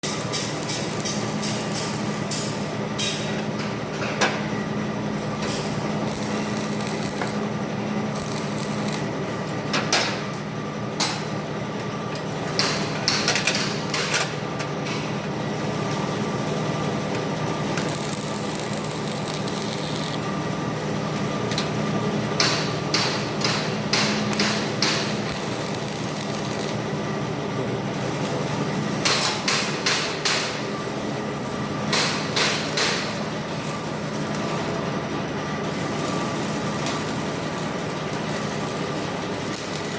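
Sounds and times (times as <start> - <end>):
steady buzzing hum: 0.0 - 39.9.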